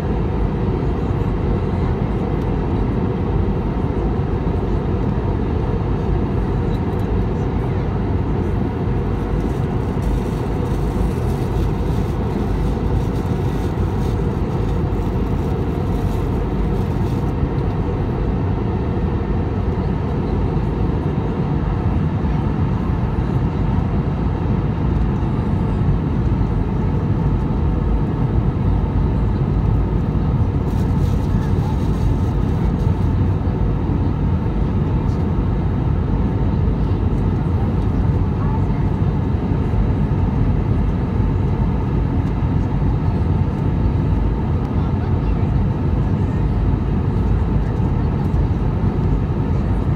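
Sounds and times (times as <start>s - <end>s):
airplane cabin engine noise: 0.0s - 49.9s.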